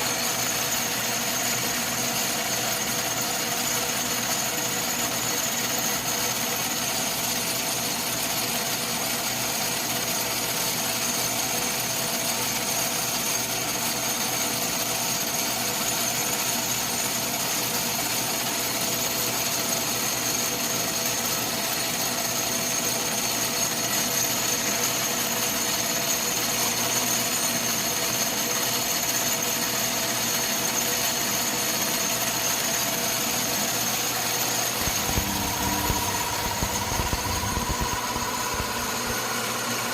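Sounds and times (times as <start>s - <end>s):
metal lathe whining: 0.0s - 39.9s.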